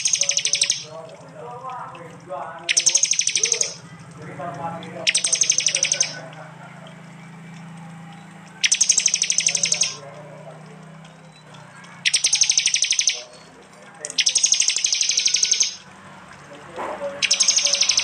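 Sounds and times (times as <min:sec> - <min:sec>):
bird rapid high chips: 0:00.0 - 0:04.2, 0:04.8 - 0:10.4, 0:11.1 - 0:16.0, 0:17.1 - 0:18.0.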